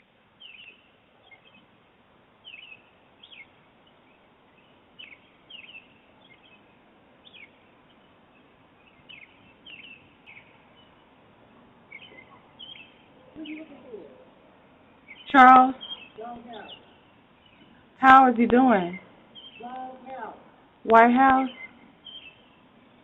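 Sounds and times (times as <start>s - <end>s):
bird chirping: 0.0s - 23.0s
faint hiss: 0.0s - 23.0s.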